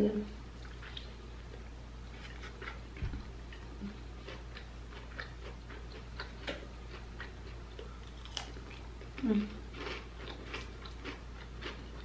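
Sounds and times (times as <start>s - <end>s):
wet chewing and lip-smacking: 0.6s - 12.0s.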